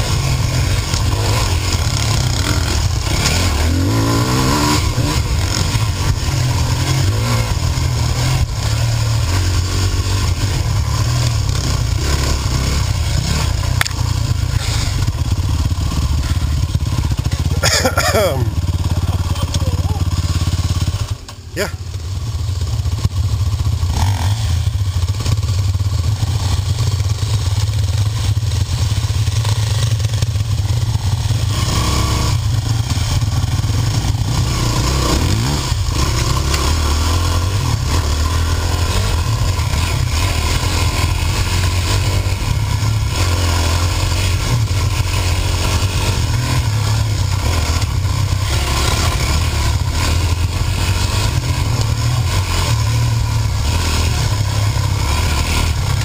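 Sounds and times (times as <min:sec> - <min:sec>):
bike clattering over rough trail: 0:00.0 - 0:24.4, 0:25.0 - 0:56.0
dirt bike engine revving: 0:00.0 - 0:56.0.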